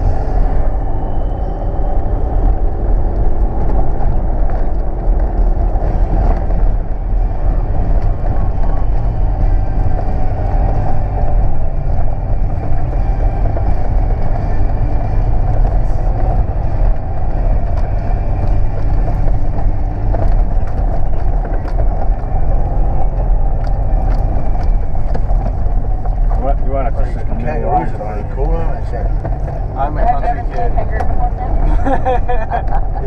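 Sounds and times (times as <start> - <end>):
vehicle engine and tyres rumbling: 0.0 - 33.0.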